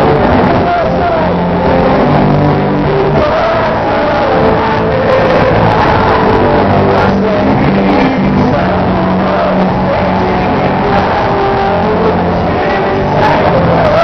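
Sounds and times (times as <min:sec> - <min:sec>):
guitar: 0:00.0 - 0:14.0
live band playing loud music: 0:00.0 - 0:14.0.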